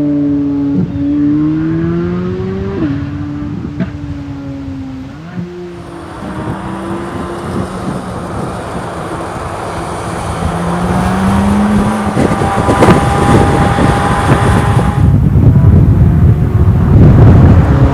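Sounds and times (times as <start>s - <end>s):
wind noise: 0.0s - 17.9s
car engine running under load: 2.2s - 17.9s.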